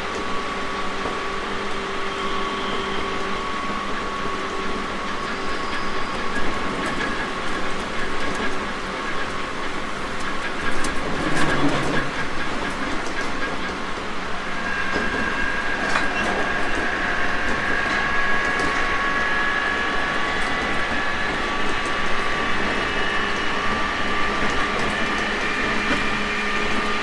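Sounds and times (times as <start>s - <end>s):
electric train running with whine: 0.0s - 27.0s
wheels clicking over rail joints: 3.2s - 27.0s.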